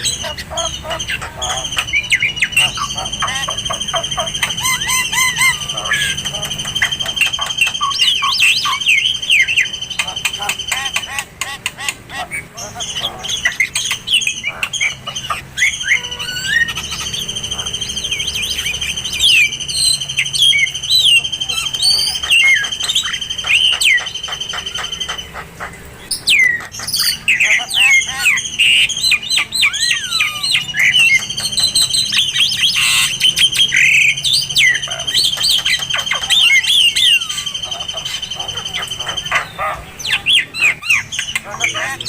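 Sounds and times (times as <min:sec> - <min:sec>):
bird song whistles and chirps: 0:00.0 - 0:11.3, 0:12.3 - 0:42.0
continuous high trill: 0:00.0 - 0:42.0.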